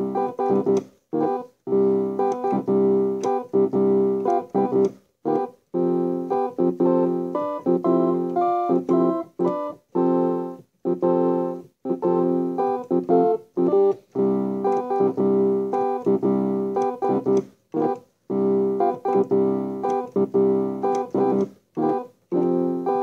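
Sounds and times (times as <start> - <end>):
keyboard chords: 0.0 - 23.0.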